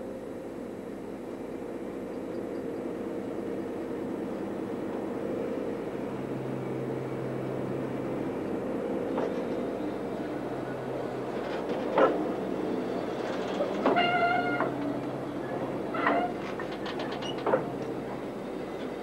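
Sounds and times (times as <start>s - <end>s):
diesel locomotive engine hum: 0.0s - 19.0s
low engine drone: 0.0s - 19.0s.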